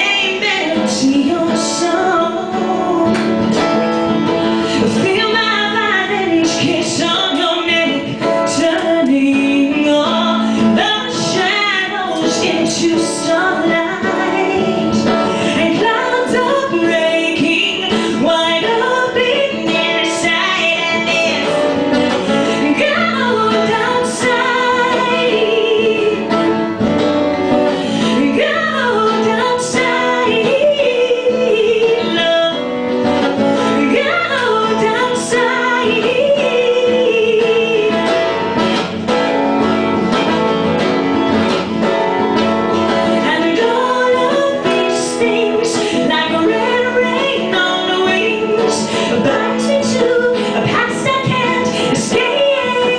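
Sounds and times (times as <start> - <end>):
woman singing: 0.0 - 39.4, 40.1 - 52.9
acoustic guitar strumming: 0.0 - 52.9.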